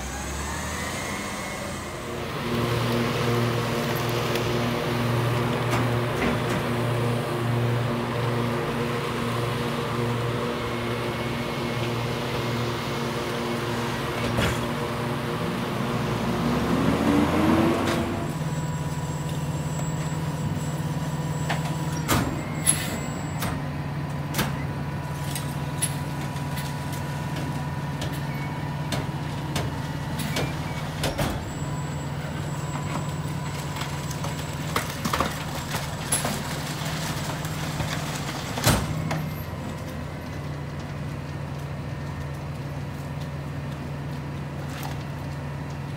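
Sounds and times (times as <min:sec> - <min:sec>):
garbage truck diesel engine: 0:00.0 - 0:45.9.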